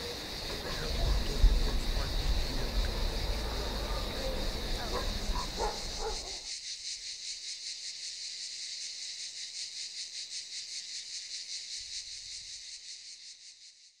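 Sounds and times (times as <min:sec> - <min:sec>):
cicadas chirring: 0:00.0 - 0:14.0.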